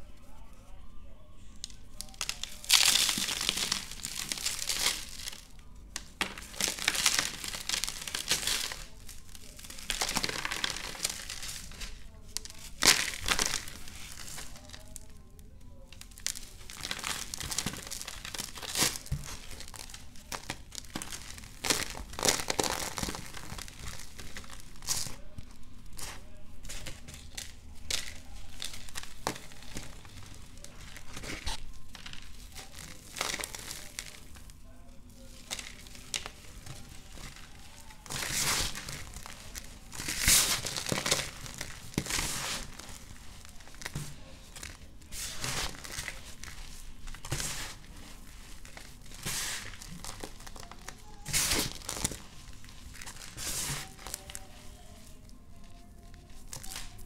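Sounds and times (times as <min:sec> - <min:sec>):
blocks crunching and crumbling: 0:02.0 - 0:15.1, 0:15.9 - 0:34.6, 0:35.3 - 0:57.0.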